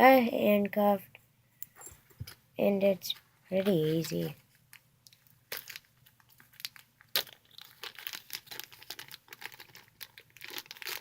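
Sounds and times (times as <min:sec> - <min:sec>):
crinkling handling noise: 0:01.6 - 0:11.0.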